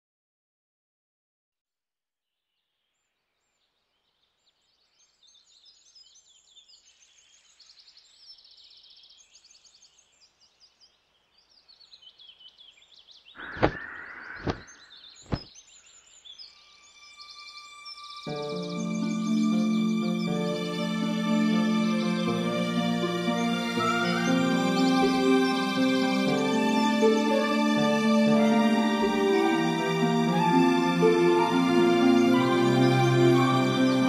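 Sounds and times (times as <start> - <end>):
small birds chirping and trilling: 2.5 - 34.0.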